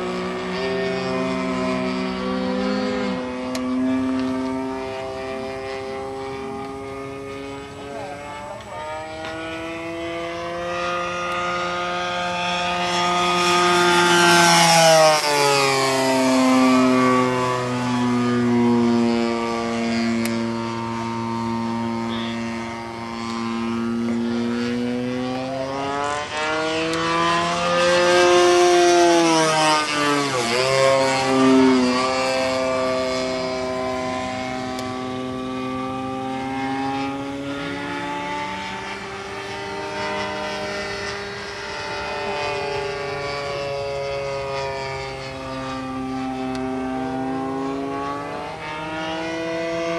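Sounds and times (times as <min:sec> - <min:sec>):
model plane engine droning: 0:00.0 - 0:49.9.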